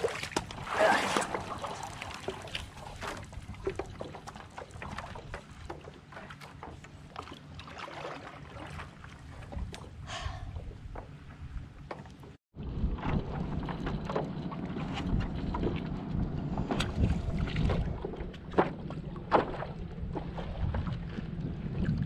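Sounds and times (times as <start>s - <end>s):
paddle splashing water: 0.0s - 22.0s.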